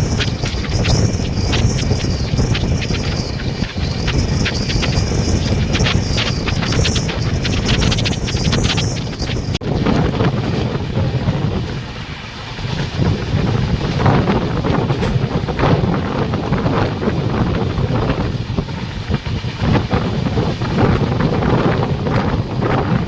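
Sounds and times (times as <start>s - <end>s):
train wheels rumbling on rails: 0.0s - 23.0s
wheels clacking over rail joints: 0.0s - 23.0s
wind on microphone: 0.0s - 23.0s.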